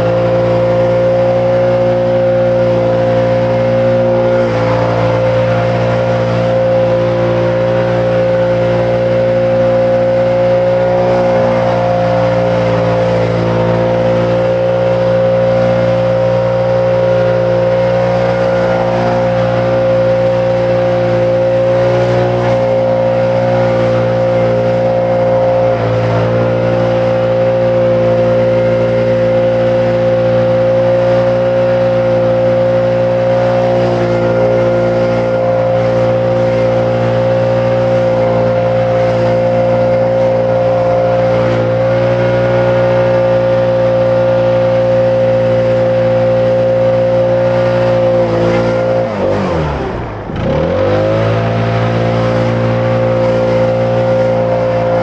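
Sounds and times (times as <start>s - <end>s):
small petrol engine running: 0.0s - 55.0s.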